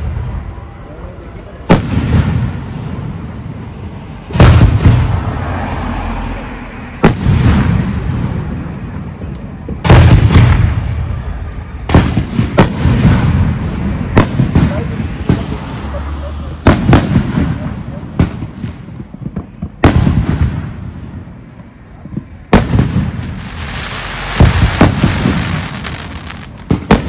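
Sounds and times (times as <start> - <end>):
fireworks shells booming: 1.6 - 5.4, 7.0 - 27.0.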